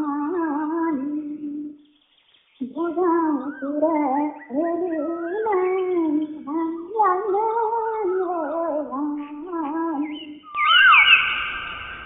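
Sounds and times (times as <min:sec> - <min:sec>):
woman singing unaccompanied: 0:00.0 - 0:01.8, 0:02.6 - 0:10.6.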